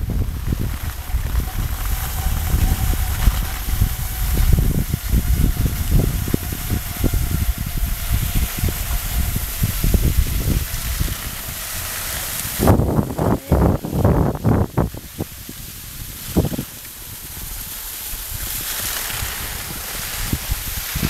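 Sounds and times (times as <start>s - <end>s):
skis gliding on snow: 0.0s - 21.0s
wind buffeting microphone: 0.0s - 21.0s.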